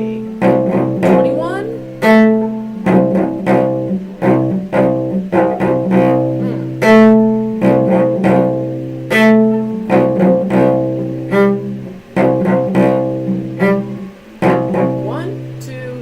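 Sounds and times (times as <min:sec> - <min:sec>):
cello playing bowed notes: 0:00.0 - 0:16.0.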